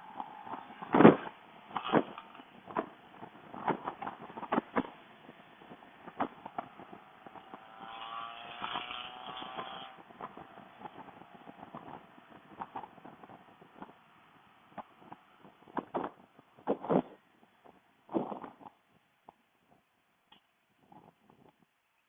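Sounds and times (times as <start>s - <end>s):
motorcycle engine accelerating: 0.0s - 18.7s
wind buffeting microphone: 0.0s - 19.0s, 20.8s - 21.7s.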